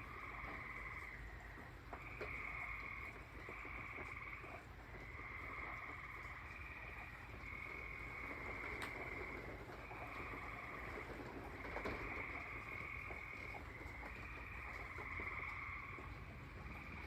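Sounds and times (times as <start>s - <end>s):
light rain falling: 0.0s - 17.0s
tree frogs trilling: 0.0s - 17.0s.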